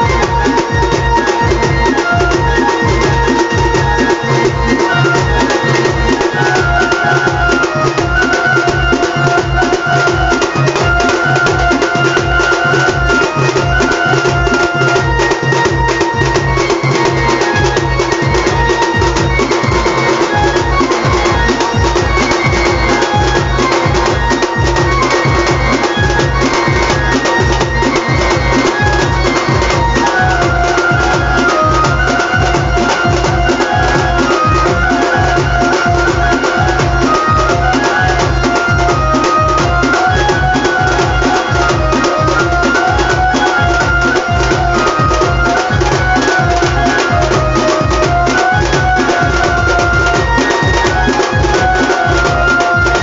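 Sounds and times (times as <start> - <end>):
reedy wind instrument melody: 0.0 - 53.0
steady drum beat: 0.0 - 53.0.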